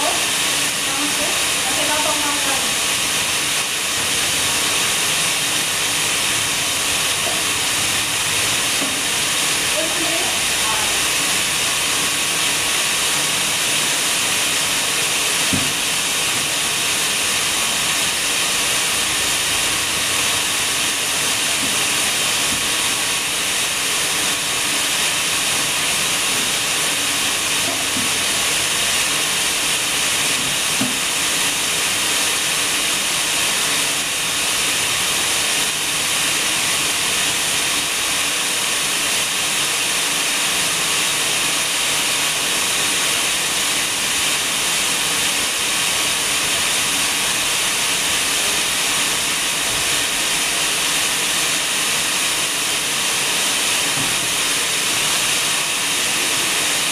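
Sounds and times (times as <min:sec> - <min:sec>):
steady loud hiss: 0:00.0 - 0:56.9.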